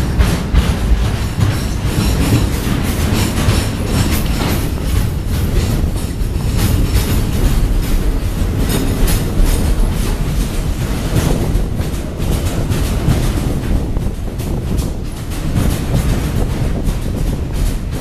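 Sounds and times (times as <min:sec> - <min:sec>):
freight train rumble: 0:00.0 - 0:18.0
train wheels clacking on rail joints: 0:00.0 - 0:18.0.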